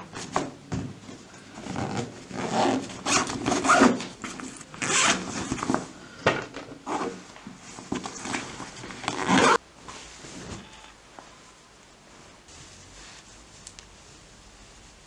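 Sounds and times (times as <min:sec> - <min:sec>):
rustling and scraping: 0:00.1 - 0:06.0, 0:06.6 - 0:15.0.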